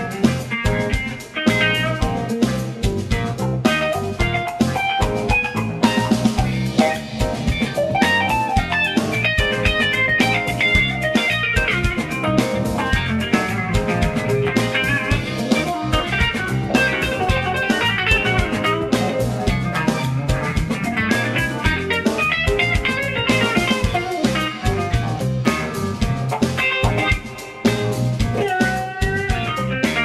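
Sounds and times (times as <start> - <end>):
backing track with drums: 0.0 - 30.0
clean electric guitar funk lines: 0.0 - 30.0.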